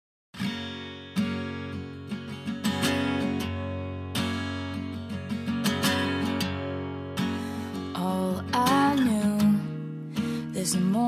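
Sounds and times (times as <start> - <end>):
acoustic guitar strumming: 0.4 - 11.0.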